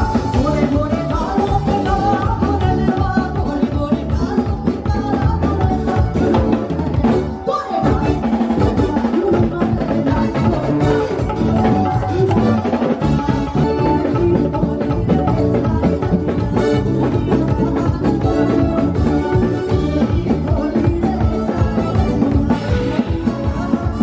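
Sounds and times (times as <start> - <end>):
drum kit beat: 0.0 - 24.0
person singing: 0.0 - 24.0.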